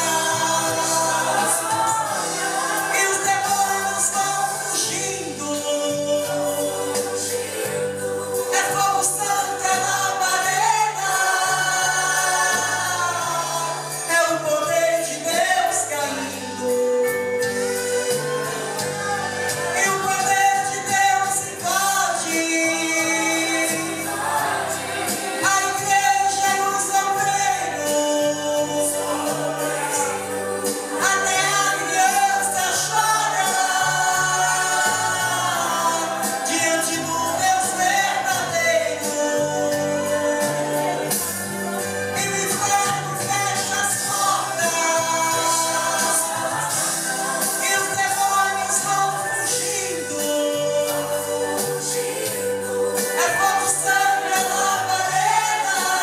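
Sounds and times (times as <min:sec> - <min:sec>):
woman singing a hymn: 0:00.0 - 0:24.4, 0:25.4 - 0:56.0
instrumental accompaniment: 0:00.0 - 0:56.0.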